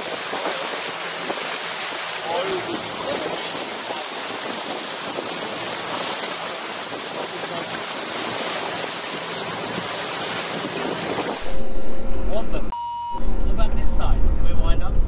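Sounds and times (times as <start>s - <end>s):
rush of wind and water: 0.0s - 12.6s
outboard motor hum: 0.0s - 15.0s.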